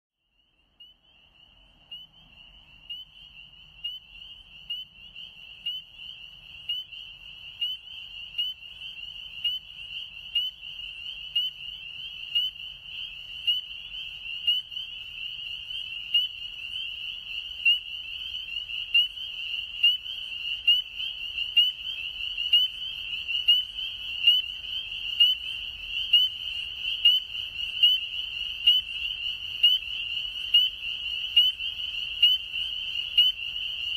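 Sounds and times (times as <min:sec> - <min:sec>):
chorus of frogs peeping: 0:00.2 - 0:33.9
loud single frog peeps: 0:00.4 - 0:33.9.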